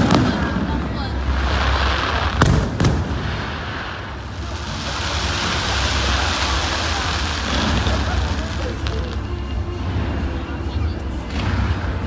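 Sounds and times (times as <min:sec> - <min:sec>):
fireworks bangs: 0:00.0 - 0:12.0
fireworks display noise: 0:00.0 - 0:12.0.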